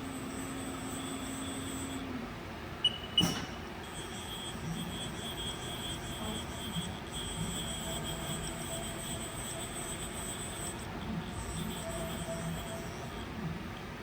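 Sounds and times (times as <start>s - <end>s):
machine servo hum with whine: 0.0s - 14.0s.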